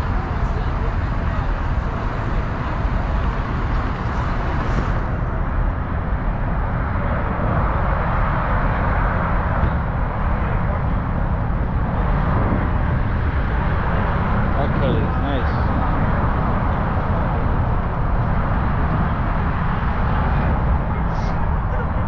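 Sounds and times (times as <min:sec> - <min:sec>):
vehicle noise: 0:00.0 - 0:22.0.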